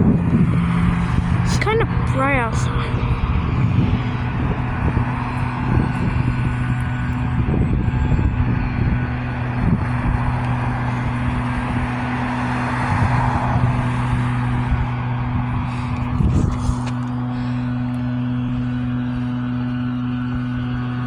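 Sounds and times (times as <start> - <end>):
low hum: 0.0 - 21.0
road traffic noise: 0.0 - 21.0.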